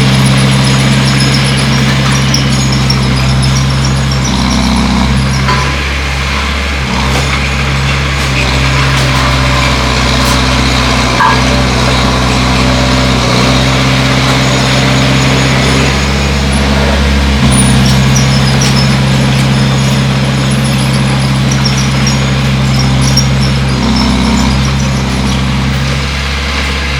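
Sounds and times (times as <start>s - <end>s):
bulldozer diesel engine under load: 0.0s - 26.9s.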